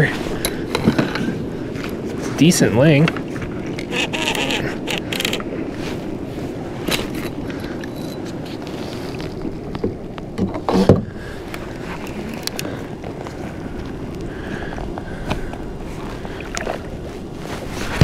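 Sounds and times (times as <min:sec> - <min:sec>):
water noise: 0:00.0 - 0:18.0
wind: 0:00.0 - 0:18.0.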